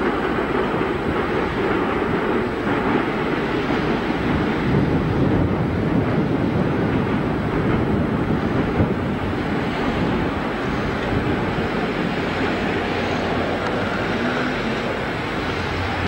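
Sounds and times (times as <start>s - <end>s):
sea noise: 0.0s - 16.0s
wind buffeting microphone: 0.0s - 16.0s.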